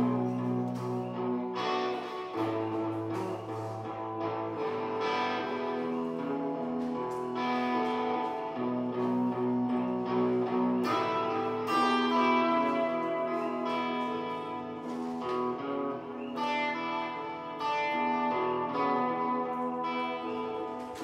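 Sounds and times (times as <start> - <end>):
blues guitar playing: 0.0 - 21.0.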